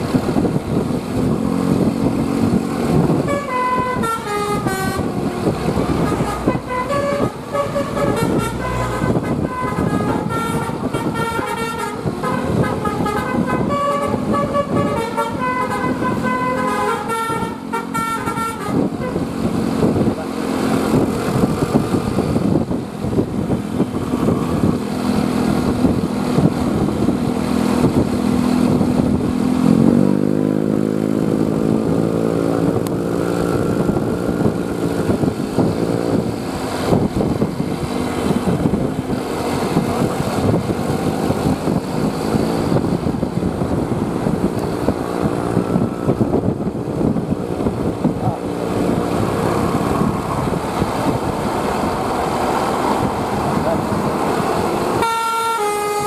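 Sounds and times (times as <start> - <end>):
heavy vehicle engine running: 0.0 - 56.0
road traffic: 0.0 - 56.0.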